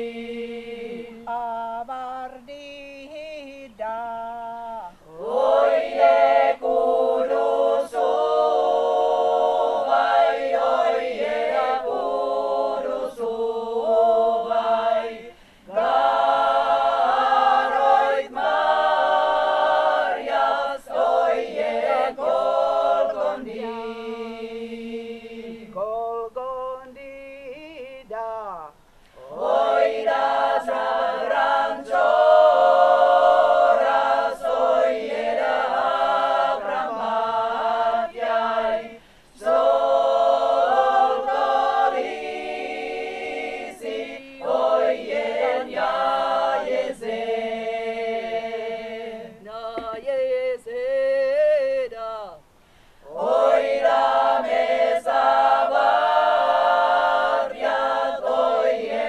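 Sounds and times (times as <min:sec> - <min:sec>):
women singing a cappella: 0:00.0 - 0:28.1, 0:28.7 - 0:59.0.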